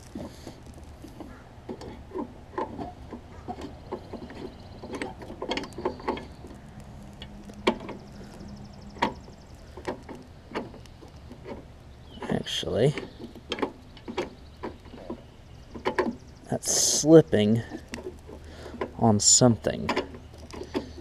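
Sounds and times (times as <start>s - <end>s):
mower drive clicking and knocking: 0.0s - 21.0s.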